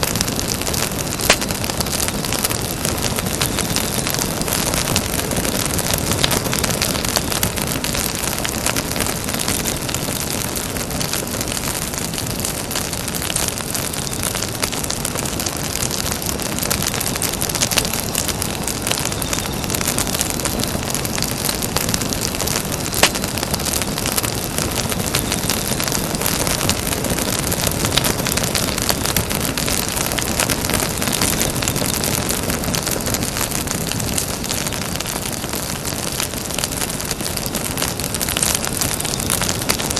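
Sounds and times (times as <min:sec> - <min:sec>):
campfire hissing: 0:00.0 - 0:39.9
fire crackling and popping: 0:00.0 - 0:39.9.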